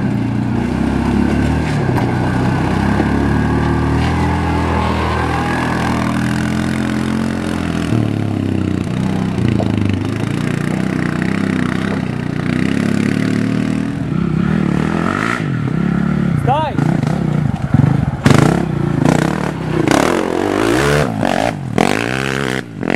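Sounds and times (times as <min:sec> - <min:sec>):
utility vehicle engine at low revs: 0:00.0 - 0:22.9.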